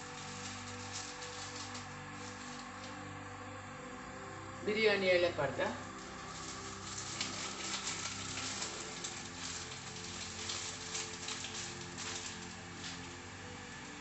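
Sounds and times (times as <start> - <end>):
steady low hum: 0.0 - 14.0
water hissing and crackling in pot: 0.0 - 14.0.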